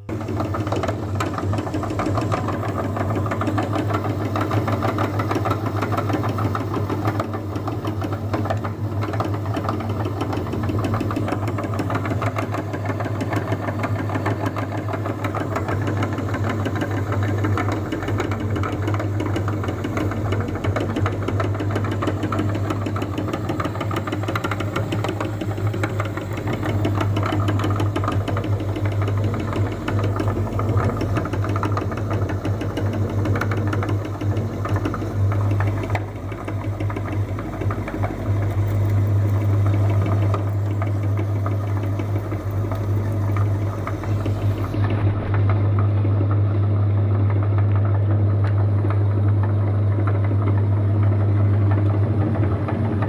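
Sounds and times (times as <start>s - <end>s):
electric meat grinder running: 0.0s - 45.4s.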